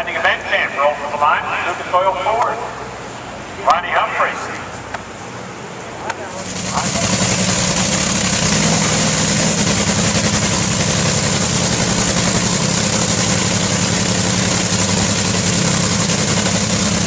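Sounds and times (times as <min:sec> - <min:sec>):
drag racing engines running loud: 0:00.0 - 0:17.0.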